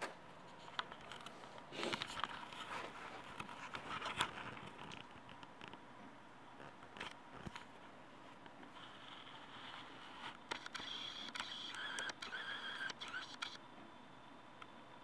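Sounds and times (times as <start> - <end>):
computer case fans whirring: 0.0 - 15.0.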